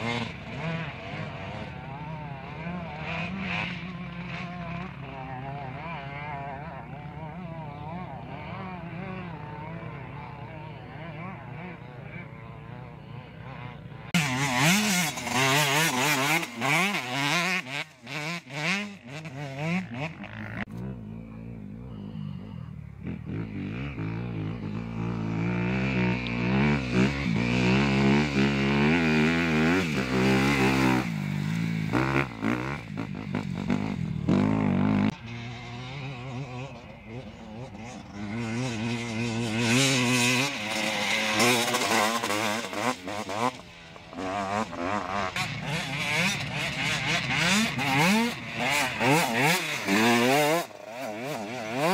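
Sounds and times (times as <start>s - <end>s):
dirt bike engines racing past: 0.0s - 51.9s
dirt bike revving: 0.0s - 51.9s.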